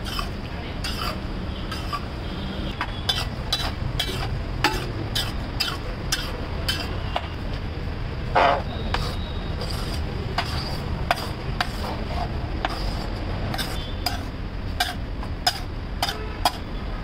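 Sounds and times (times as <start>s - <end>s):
metal spatula scraping on griddle: 0.0s - 2.1s, 3.0s - 7.2s, 8.4s - 16.7s.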